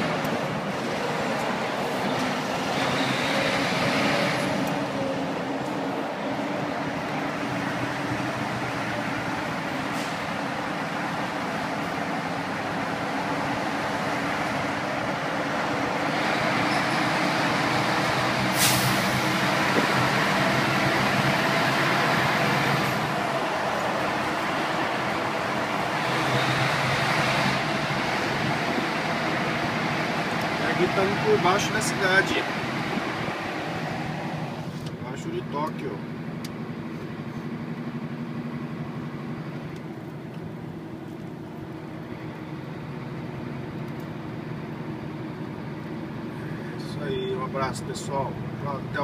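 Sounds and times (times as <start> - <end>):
engine and tyre noise in tunnel: 0.0 - 49.0.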